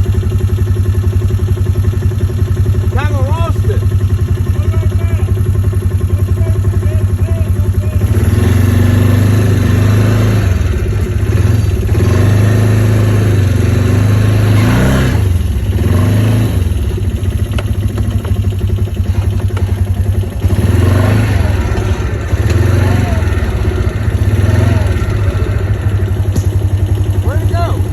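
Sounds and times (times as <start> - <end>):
atv engine running: 0.0 - 27.9.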